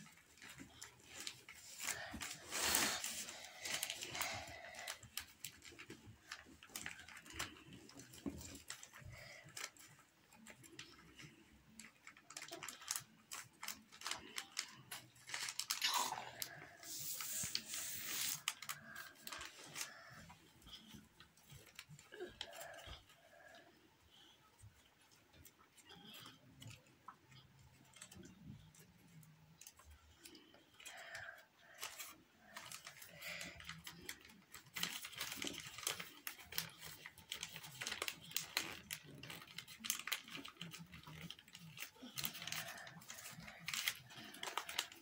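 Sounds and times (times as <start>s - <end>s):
paper crinkling and rustling: 0.0s - 23.6s, 24.6s - 45.0s.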